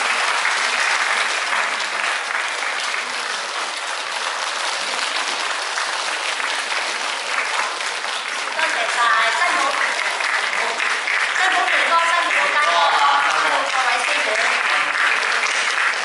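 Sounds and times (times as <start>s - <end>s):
audience applause: 0.0s - 16.0s.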